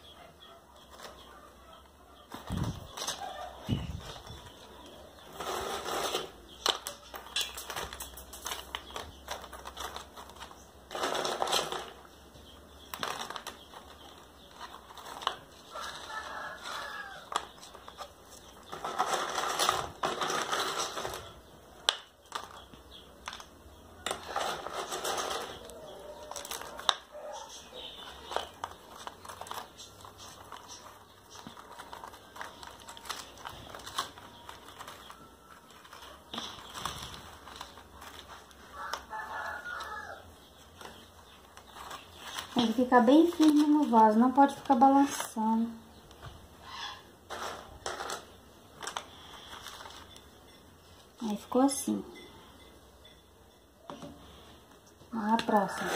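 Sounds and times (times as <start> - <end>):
rustling of pressed potting mix: 0.8 - 53.2, 53.8 - 55.9.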